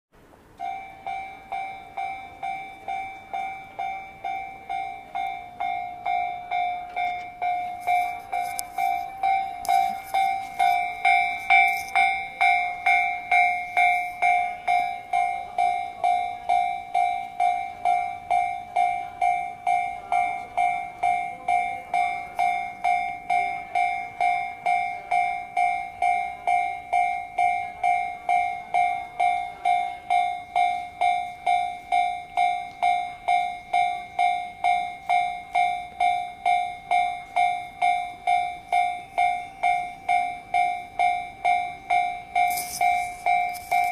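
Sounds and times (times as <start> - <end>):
passing train rattling: 0.2 - 43.9
railroad crossing bell ringing: 0.2 - 43.9.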